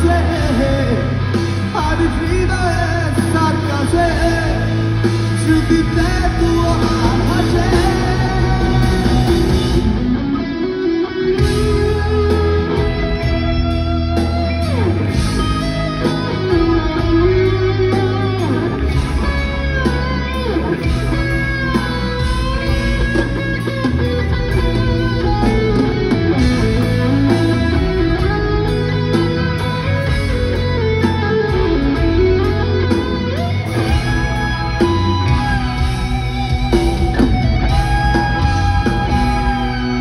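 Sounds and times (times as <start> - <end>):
steady drum beat: 0.0 - 10.2, 11.4 - 40.0
guitar melody with string bends: 0.0 - 40.0
sustained bass notes: 0.0 - 40.0.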